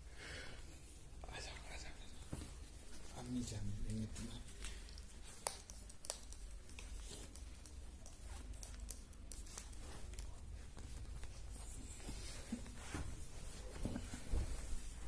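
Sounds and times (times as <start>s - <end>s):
hands rubbing dog fur: 1.8s - 15.0s.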